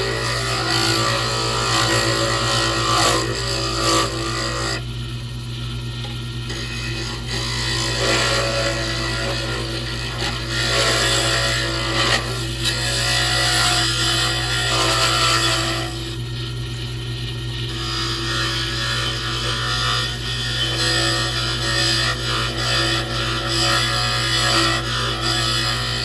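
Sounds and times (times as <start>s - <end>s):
tool rasping on spinning wood: 0.0s - 4.9s, 6.0s - 16.2s, 17.7s - 26.0s
lathe motor hum: 0.0s - 26.0s.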